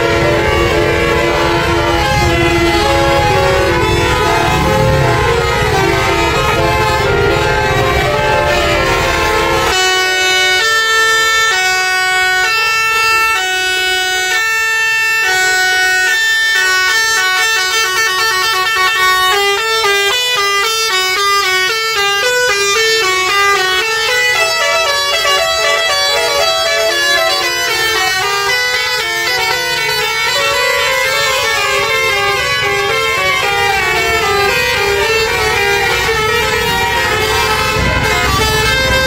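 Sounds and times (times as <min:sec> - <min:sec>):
musical air horn playing a tune: 0:00.0 - 0:39.0.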